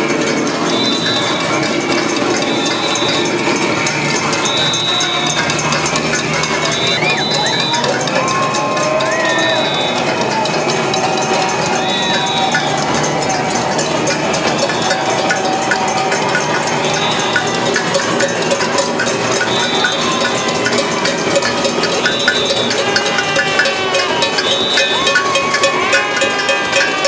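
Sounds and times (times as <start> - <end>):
saucepans beaten with spoons: 0.0 - 27.0
whistle blasts: 0.0 - 27.0.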